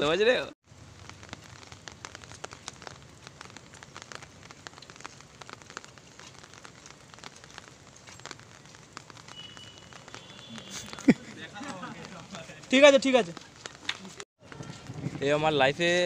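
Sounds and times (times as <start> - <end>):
faint outdoor hiss: 0.0 - 14.2
raindrops ticking on surfaces: 0.0 - 15.1.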